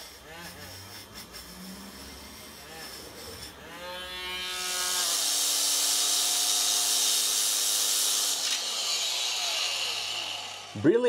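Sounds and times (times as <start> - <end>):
rotary tool sanding metal: 0.0 - 10.9.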